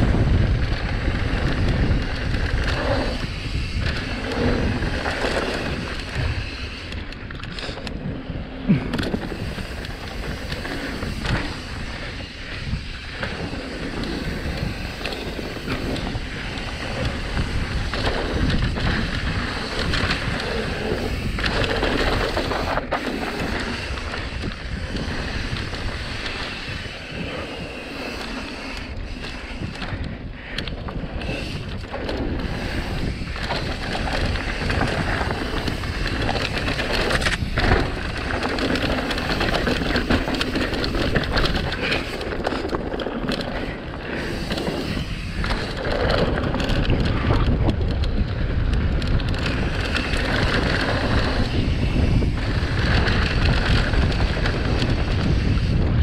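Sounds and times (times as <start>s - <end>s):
bike clattering over bumps: 0.0s - 56.0s
tyres rolling over dirt and rock: 0.0s - 56.0s
wind buffeting microphone: 0.0s - 56.0s.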